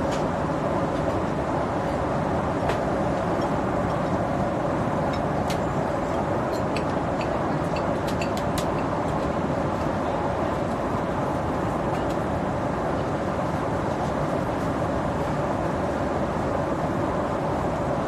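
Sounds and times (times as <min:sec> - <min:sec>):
airliner cabin noise: 0:00.0 - 0:18.0.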